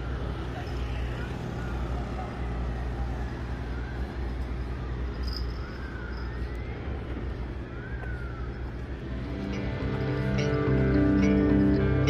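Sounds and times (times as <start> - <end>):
faint rising and falling whistles: 0.0 - 9.7.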